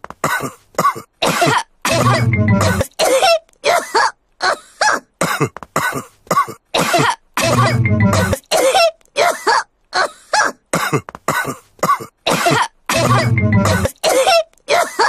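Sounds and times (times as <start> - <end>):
cartoon voices coughing: 0.2 - 15.0.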